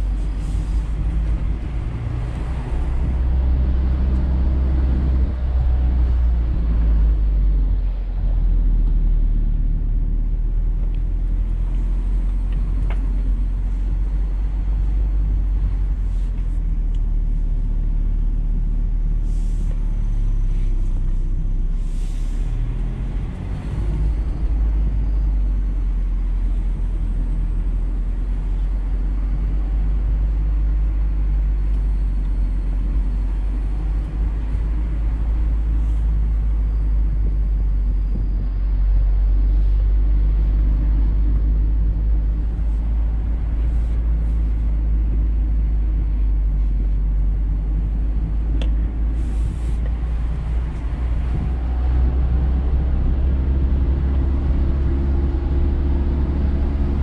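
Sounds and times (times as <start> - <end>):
car engine pulling: 0.0 - 57.0
road and wind rumble: 0.0 - 57.0.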